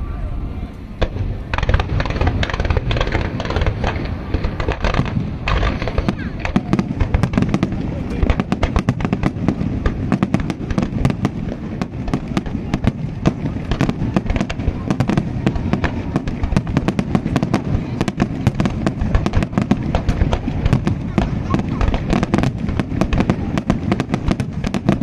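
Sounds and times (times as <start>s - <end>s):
fireworks cracks and bangs: 1.0s - 25.0s
low rumble of bursting shells: 1.0s - 25.0s.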